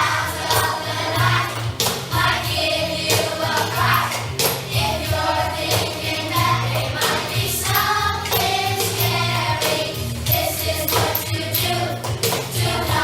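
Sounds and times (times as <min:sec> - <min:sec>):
bass line: 0:00.0 - 0:13.0
choir singing: 0:00.0 - 0:13.0
instrumental accompaniment: 0:00.0 - 0:13.0
percussive beat: 0:00.0 - 0:13.0.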